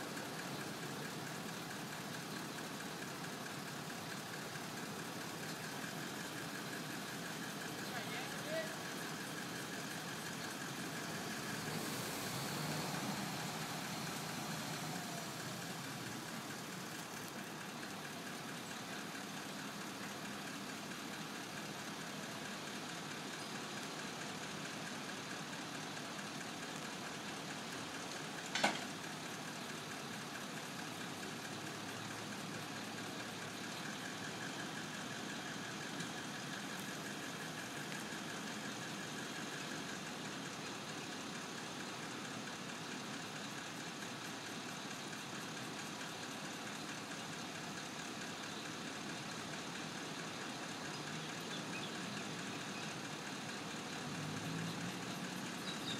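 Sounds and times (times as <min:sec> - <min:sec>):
truck engine idling: 0:00.0 - 0:55.9.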